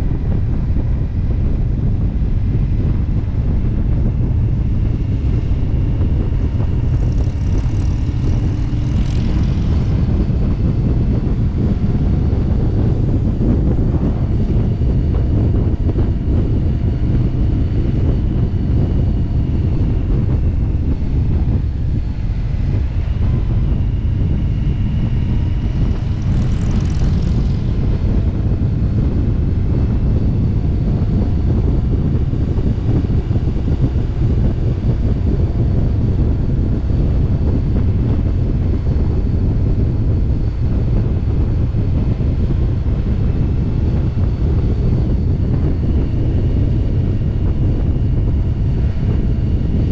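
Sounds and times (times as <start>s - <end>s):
motorcycle engine running: 0.0s - 49.9s
wind on microphone: 0.0s - 49.9s.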